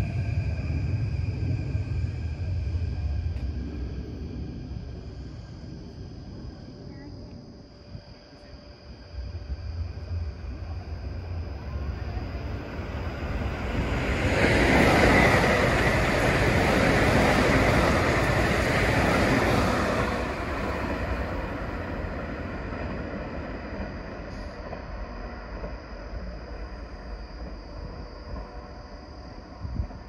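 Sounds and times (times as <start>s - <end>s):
train wheels rushing on rails: 0.0s - 5.8s, 9.3s - 30.0s.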